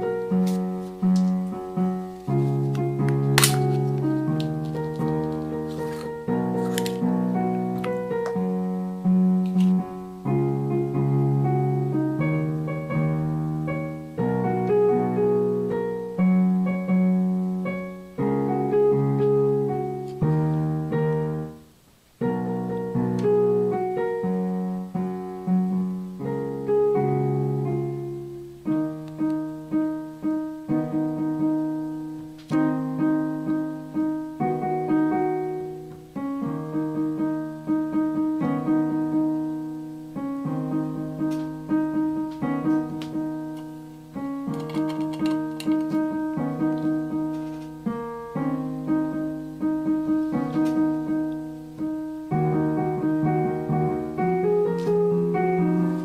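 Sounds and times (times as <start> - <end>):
piano chords: 0.0 - 56.0.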